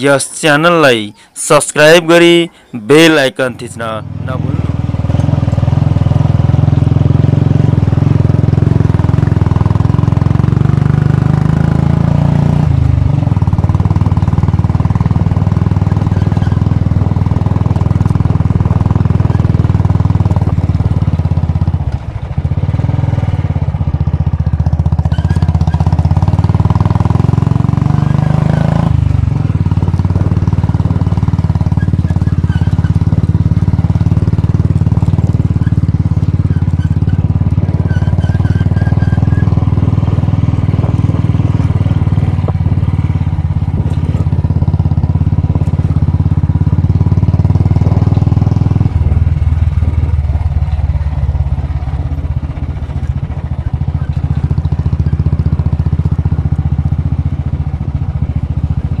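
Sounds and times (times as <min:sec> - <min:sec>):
motorcycle engine running: 0:03.8 - 0:59.0.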